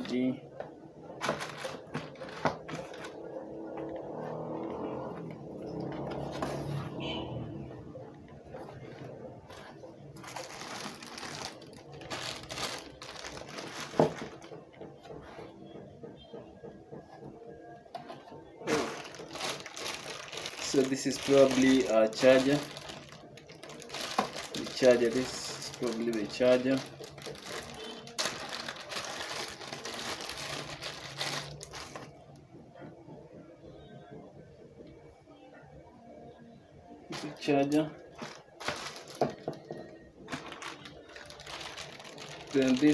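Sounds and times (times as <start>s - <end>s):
plastic bags and cardboard rustling: 0.0s - 7.3s, 8.3s - 15.6s, 18.0s - 32.2s, 37.1s - 42.9s.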